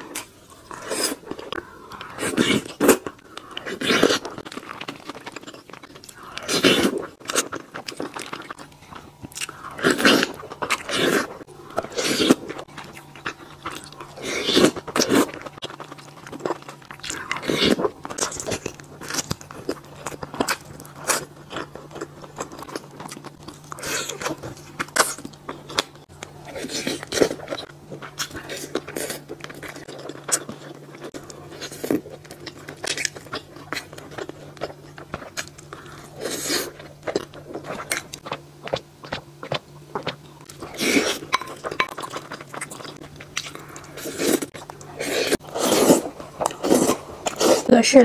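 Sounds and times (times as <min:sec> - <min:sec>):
person chewing food: 0:00.0 - 0:47.7.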